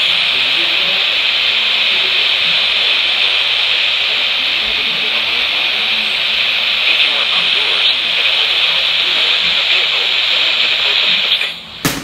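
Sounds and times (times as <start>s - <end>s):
faint voice: 0.0s - 11.6s
radio static hiss: 0.0s - 11.8s.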